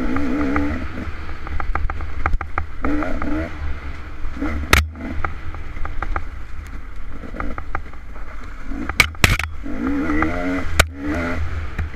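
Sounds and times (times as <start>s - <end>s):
dirt bike engine revving: 0.0s - 6.3s, 7.1s - 11.9s
wind rumble on microphone: 0.0s - 11.9s.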